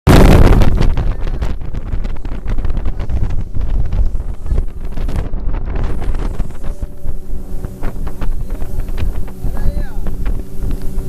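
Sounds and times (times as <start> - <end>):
boat engine: 0.1 - 11.0
water noise: 0.1 - 11.0
wind buffeting microphone: 0.1 - 11.0.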